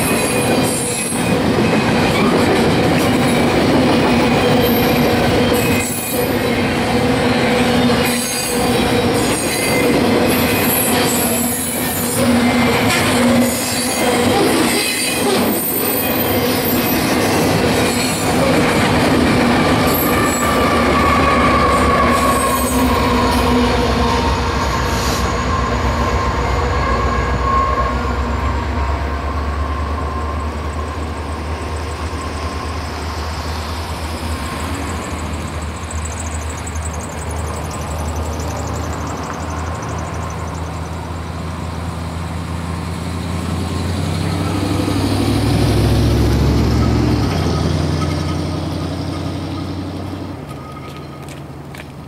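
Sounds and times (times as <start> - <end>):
deep locomotive engine drone: 0.0 - 52.0
freight cars rumbling on rails: 0.0 - 52.0.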